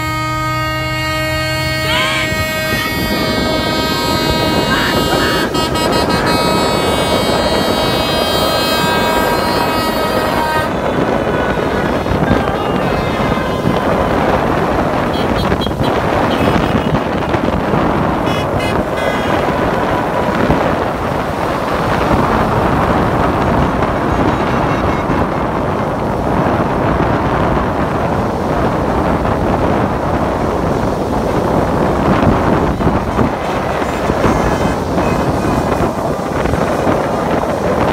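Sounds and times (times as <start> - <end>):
cars driving on wet road: 0.0 - 37.9
wind buffeting microphone: 0.0 - 37.9.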